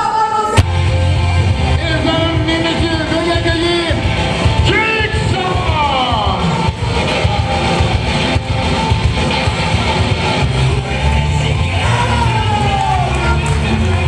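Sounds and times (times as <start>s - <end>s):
steady bass line: 0.6s - 14.0s.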